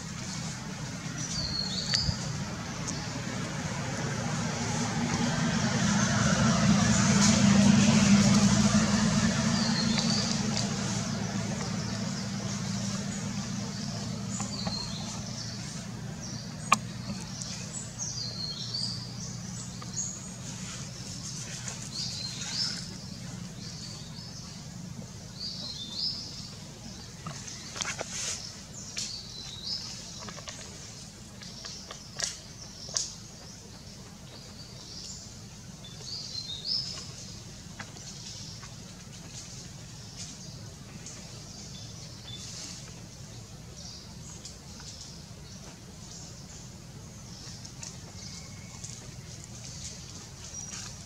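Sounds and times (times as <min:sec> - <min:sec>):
small birds chirping: 0:00.0 - 0:04.5, 0:08.2 - 0:51.0
steady low hum: 0:00.0 - 0:51.0.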